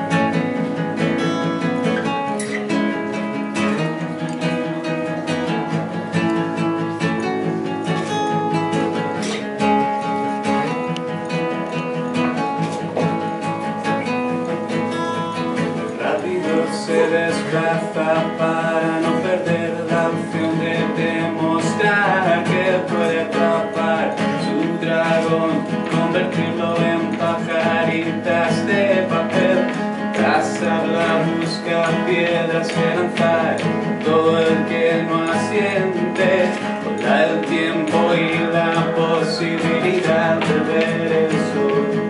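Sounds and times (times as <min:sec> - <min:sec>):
acoustic guitars strummed and picked: 0:00.0 - 0:42.0.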